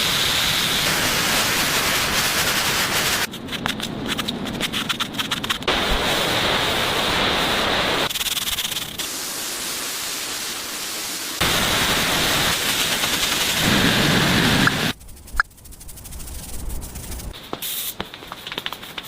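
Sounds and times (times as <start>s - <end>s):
loud steady hissing: 0.0s - 3.3s, 5.7s - 19.0s.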